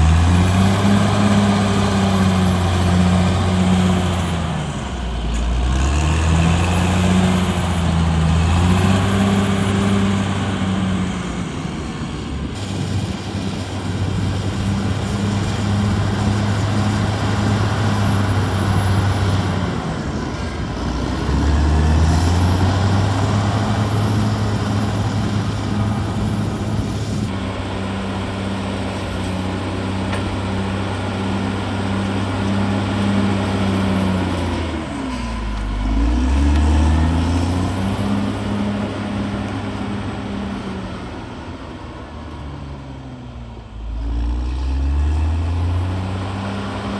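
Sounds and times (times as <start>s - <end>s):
rush of mechanical noise: 0.0s - 43.0s
bulldozer diesel engine running hard: 0.0s - 46.9s.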